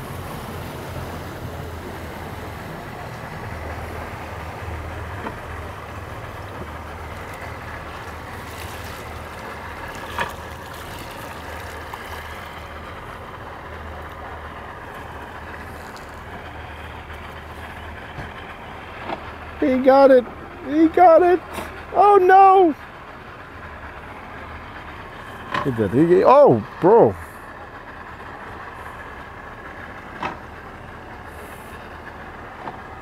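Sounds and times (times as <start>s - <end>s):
boat engine humming: 0.0s - 33.0s
water: 0.0s - 33.0s
wind: 0.0s - 33.0s.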